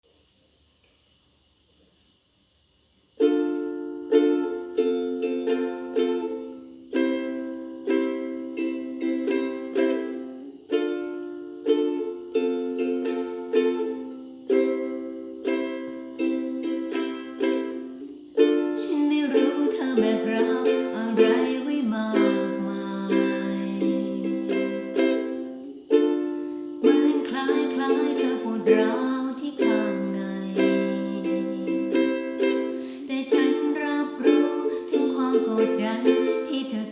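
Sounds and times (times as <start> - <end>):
ukulele playing: 3.2 - 36.9.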